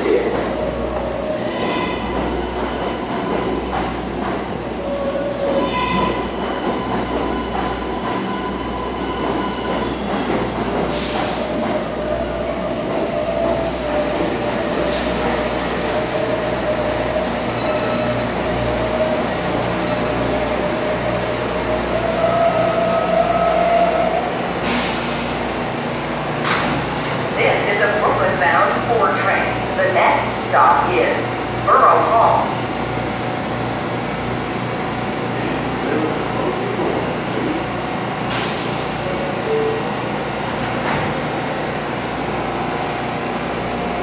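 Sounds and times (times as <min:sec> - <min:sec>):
subway train rumble: 0:00.0 - 0:44.0.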